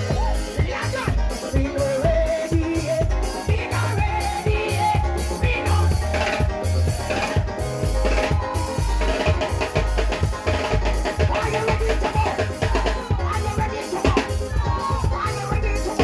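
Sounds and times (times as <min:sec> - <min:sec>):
drums playing: 0:00.0 - 0:16.0
electronic keyboard: 0:00.0 - 0:16.0
heavy bass beat: 0:00.0 - 0:16.0.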